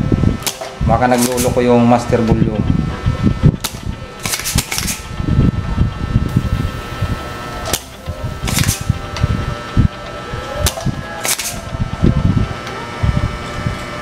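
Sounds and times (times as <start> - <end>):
desoldering pump snapping: 0.4 - 2.6, 3.4 - 12.8.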